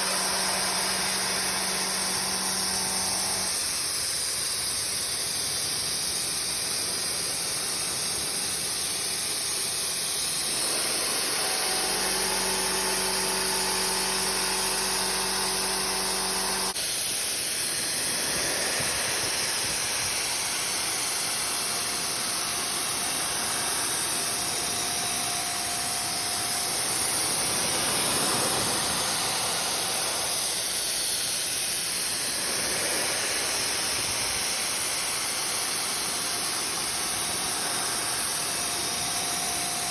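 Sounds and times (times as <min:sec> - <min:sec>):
steady hum: 0:00.0 - 0:04.0, 0:09.3 - 0:39.9
milling machine running with hiss: 0:00.0 - 0:39.9.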